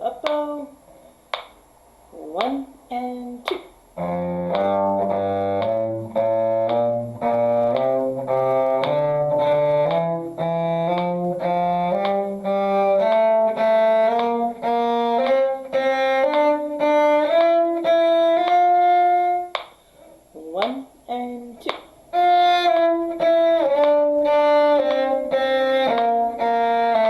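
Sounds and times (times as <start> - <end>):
bowed string instrument scale: 2.2 - 19.6, 20.4 - 27.0.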